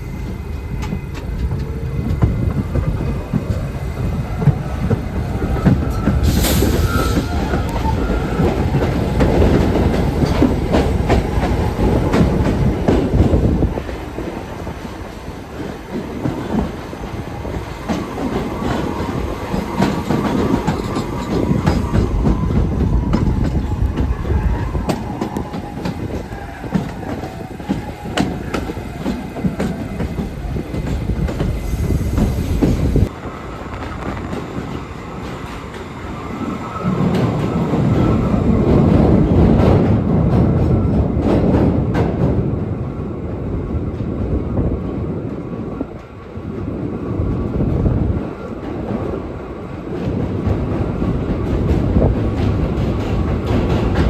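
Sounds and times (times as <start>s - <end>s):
subway train rumbling: 0.0s - 54.0s.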